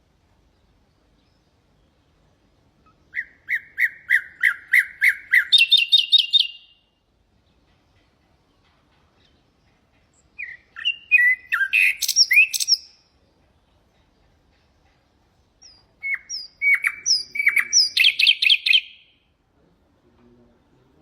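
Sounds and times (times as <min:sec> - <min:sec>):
nightingale singing: 0:00.4 - 0:19.4.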